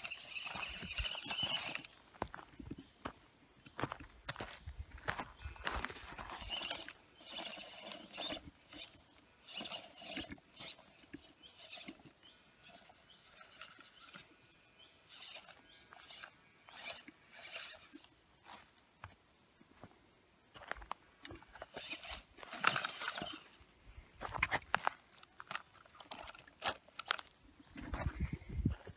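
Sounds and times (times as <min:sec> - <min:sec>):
rc car scraping on rock: 0:00.0 - 0:02.9, 0:03.7 - 0:18.9, 0:21.3 - 0:28.9.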